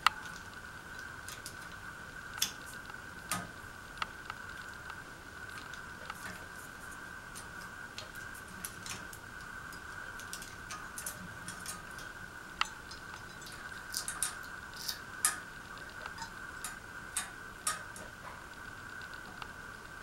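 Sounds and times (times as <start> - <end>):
faint steady high hum: 0.0 - 20.0.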